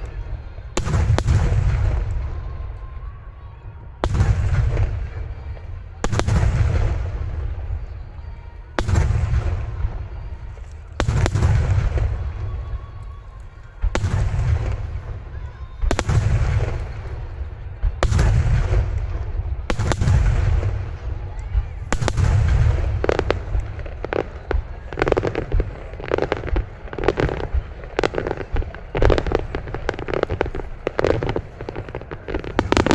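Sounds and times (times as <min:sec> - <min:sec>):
fireworks booming: 0:00.0 - 0:32.9.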